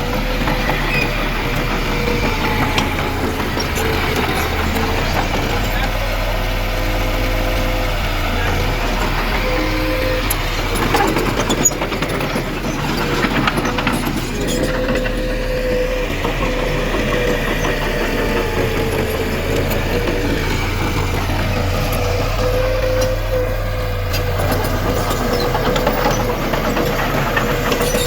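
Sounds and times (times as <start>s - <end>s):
clanks and rattles: 0.0s - 28.0s
heavy machinery diesel engine: 0.0s - 28.0s
steady machine whine: 0.0s - 28.0s.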